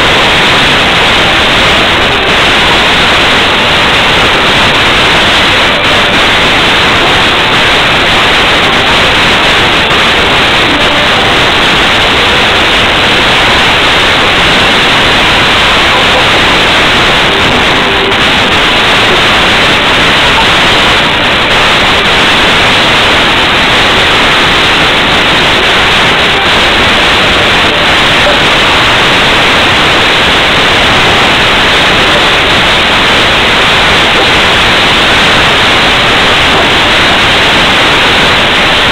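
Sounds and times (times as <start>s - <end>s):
loud static hiss: 0.0s - 38.9s.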